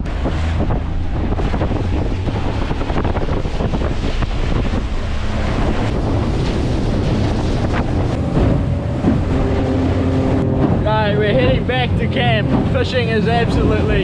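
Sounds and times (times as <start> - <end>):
outboard motor running: 0.0 - 14.0
water washing against boat: 0.0 - 14.0
wind buffeting microphone: 0.0 - 14.0.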